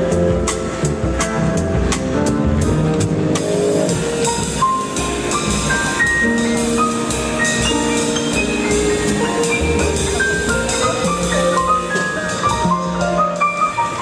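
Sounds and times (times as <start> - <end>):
keyboard melody: 0.0 - 14.0
upright double bass: 0.0 - 14.0.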